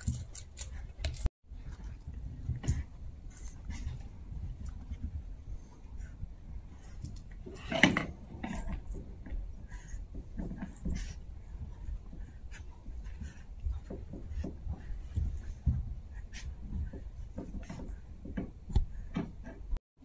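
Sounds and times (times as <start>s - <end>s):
puppy paws scratching and pattering: 0.0s - 19.6s
toys bumping and rustling: 0.0s - 19.8s.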